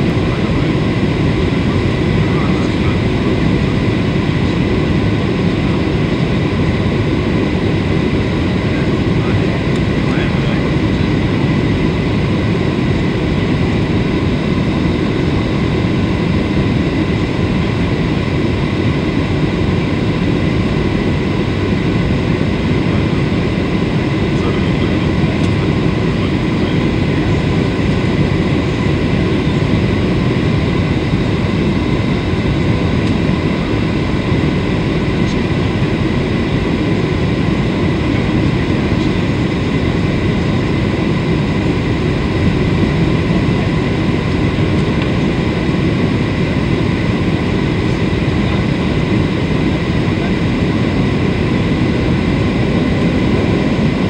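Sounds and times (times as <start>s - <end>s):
faint steady whine: 0.0s - 54.0s
jet engines rumbling: 0.0s - 54.0s.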